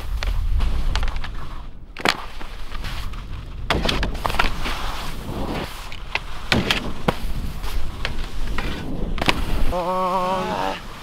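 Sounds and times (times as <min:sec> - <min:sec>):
skis scraping on snow: 0:00.0 - 0:11.0.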